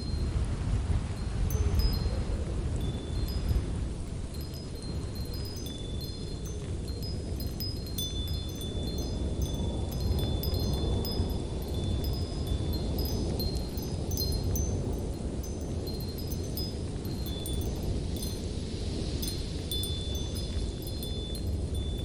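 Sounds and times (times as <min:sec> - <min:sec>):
low wind: 0:00.0 - 0:22.0
wind chimes ringing: 0:01.2 - 0:22.0.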